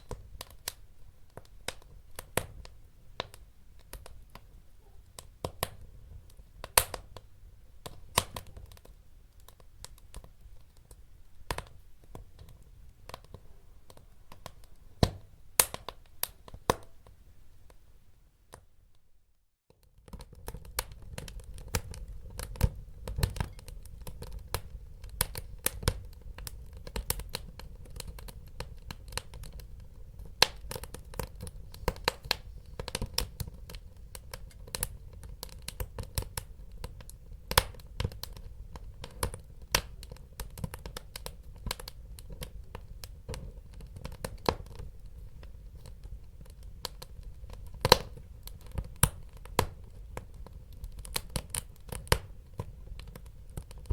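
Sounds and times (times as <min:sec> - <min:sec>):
low rumble of burning: 0:00.0 - 0:16.8, 0:19.7 - 0:53.9
wood fire crackling and popping: 0:00.0 - 0:17.0, 0:19.7 - 0:53.9.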